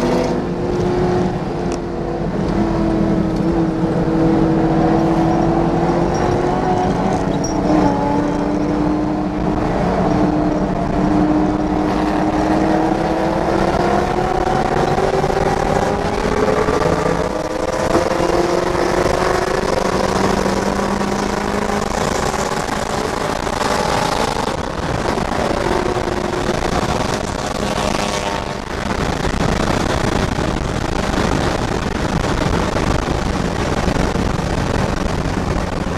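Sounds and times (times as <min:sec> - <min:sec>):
car engine accelerating: 0:00.0 - 0:35.9
wind noise: 0:00.0 - 0:35.9.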